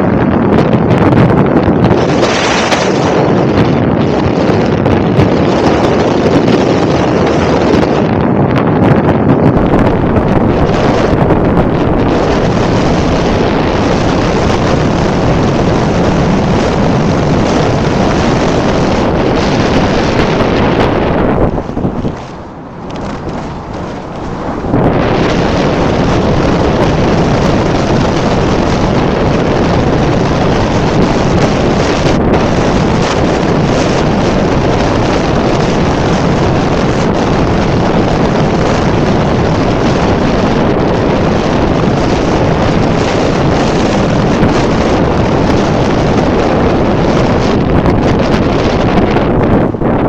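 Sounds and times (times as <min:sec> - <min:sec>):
heavy wind noise on microphone: 0:00.0 - 0:50.0.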